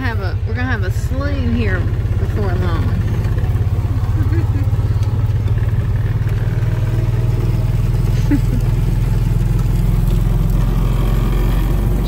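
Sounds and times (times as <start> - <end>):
small vehicle engine droning: 0.0 - 12.0.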